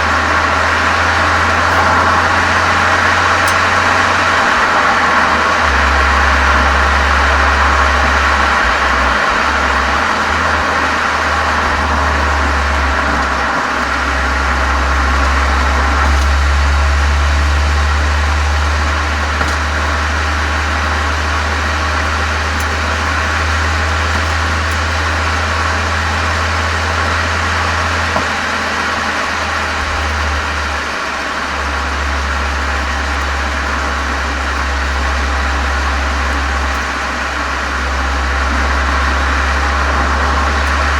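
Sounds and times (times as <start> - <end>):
car exhaust running steadily: 0.0 - 40.9.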